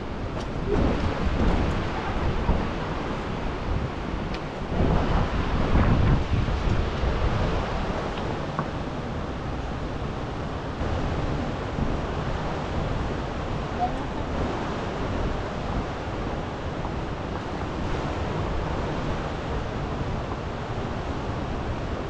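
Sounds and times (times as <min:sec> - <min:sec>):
river rushing in flood: 0:00.0 - 0:22.0
wind buffeting microphone: 0:00.0 - 0:22.0.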